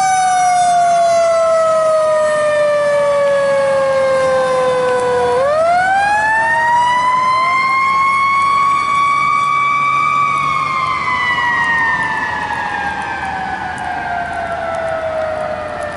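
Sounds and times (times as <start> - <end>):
fire truck siren winding: 0.0 - 15.9.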